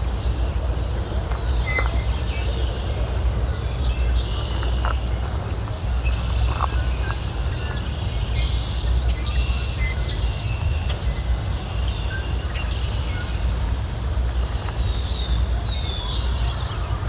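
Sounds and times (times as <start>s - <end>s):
steady low rumble: 0.0s - 17.0s
birds chirping and calling: 0.2s - 17.0s.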